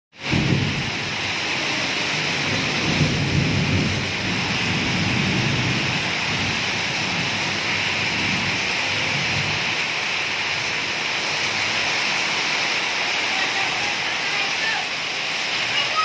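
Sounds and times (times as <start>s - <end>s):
heavy rain on roofing and ground: 0.1s - 16.0s.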